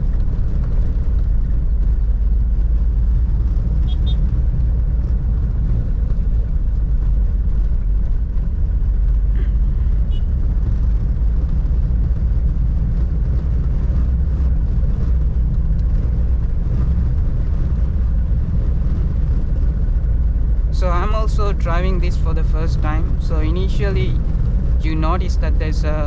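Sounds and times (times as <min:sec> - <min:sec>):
diesel engine drone in cab: 0:00.0 - 0:26.0
tyre road noise rumble: 0:00.0 - 0:26.0.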